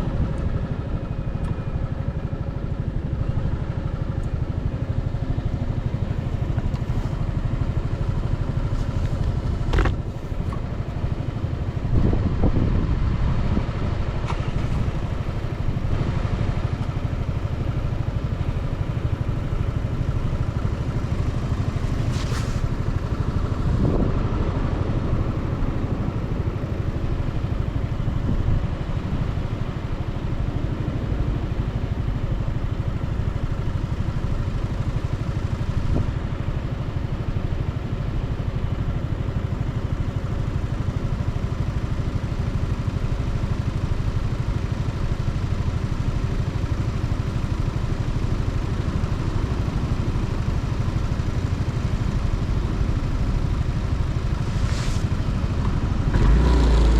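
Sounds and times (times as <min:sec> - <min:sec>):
motorcycle engine chugging: 0:00.0 - 0:56.9.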